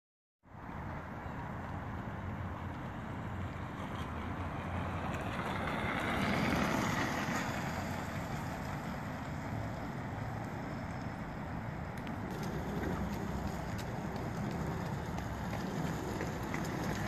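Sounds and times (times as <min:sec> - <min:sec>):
electric scooter rolling past: 0:00.5 - 0:17.0.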